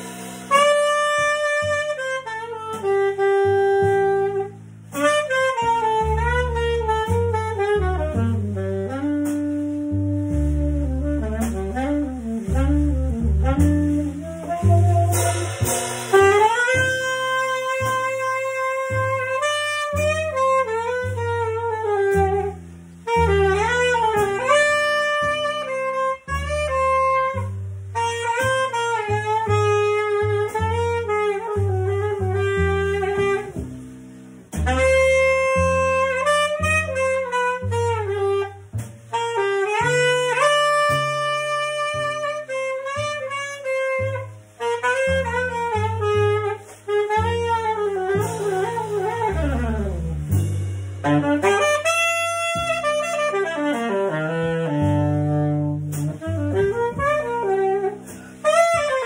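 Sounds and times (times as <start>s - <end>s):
alto saxophone melody: 0.0s - 59.0s
drum cymbals: 0.0s - 59.0s
upright bass notes: 0.0s - 59.0s.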